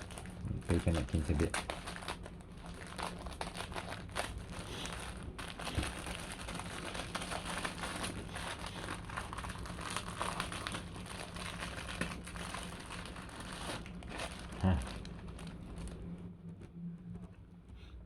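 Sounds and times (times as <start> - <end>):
paper packaging crinkling: 0.0 - 16.2
faint low hum: 0.0 - 18.0.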